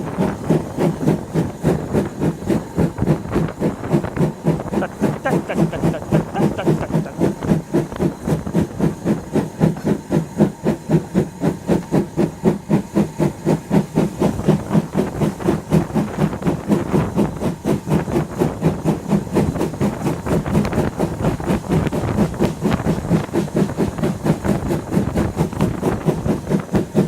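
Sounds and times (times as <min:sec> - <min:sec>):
steam engine exhaust chuffing: 0:00.0 - 0:27.0.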